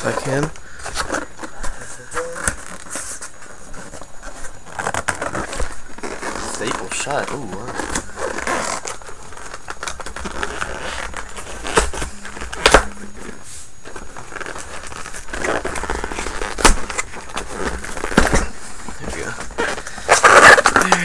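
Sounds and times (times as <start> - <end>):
cardboard box rustling and scraping: 0.2 - 21.0.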